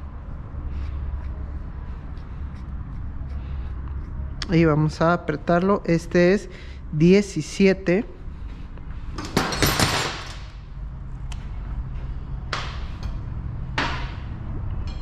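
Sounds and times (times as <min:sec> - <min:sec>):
low hum: 0:00.0 - 0:09.2, 0:10.1 - 0:15.0.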